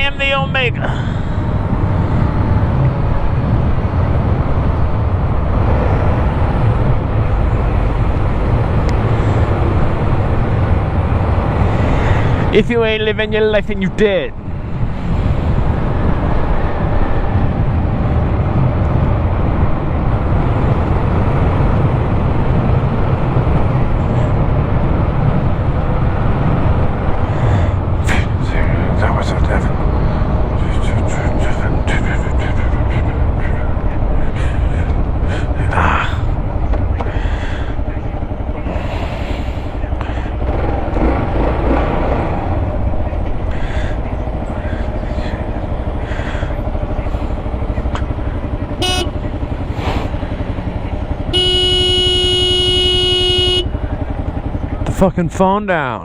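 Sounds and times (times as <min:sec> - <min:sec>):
rushing wind: 0:00.0 - 0:55.9
road noise: 0:00.0 - 0:56.0.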